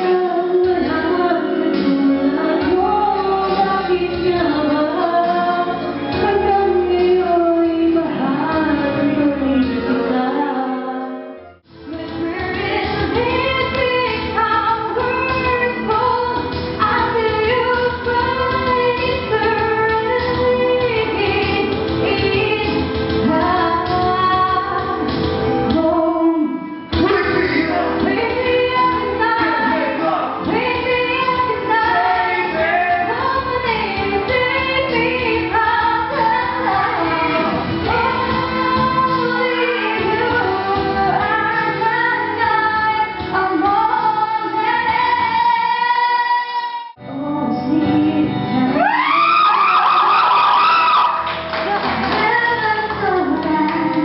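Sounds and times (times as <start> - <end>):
backing music: 0.0 - 54.0
woman singing into a microphone: 0.0 - 54.0.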